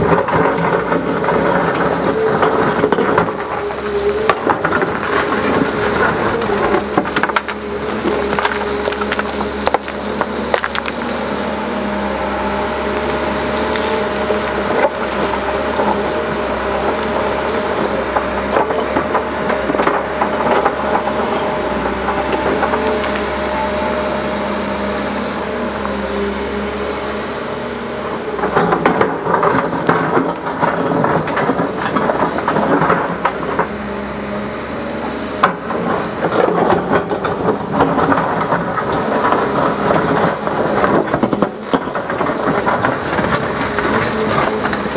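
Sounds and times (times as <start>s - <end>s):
bucket scraping and knocking rocks: 0.0s - 24.2s, 28.0s - 34.1s, 34.9s - 44.9s
excavator engine and hydraulics hum: 0.0s - 44.9s.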